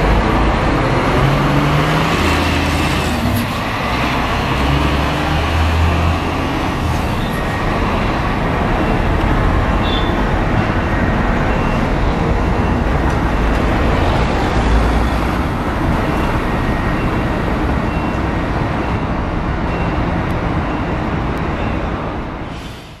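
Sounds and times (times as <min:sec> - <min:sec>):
diesel coach engine driving off: 0:00.0 - 0:22.8
city traffic noise: 0:00.0 - 0:23.0.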